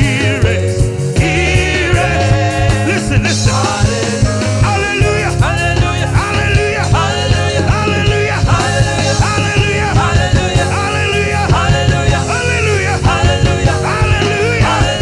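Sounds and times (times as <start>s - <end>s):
upbeat worship band music: 0.0s - 15.0s.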